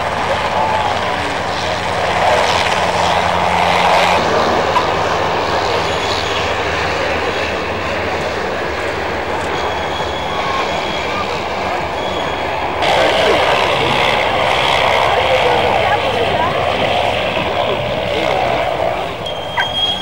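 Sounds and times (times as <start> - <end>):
aircraft engines droning: 0.0 - 20.0.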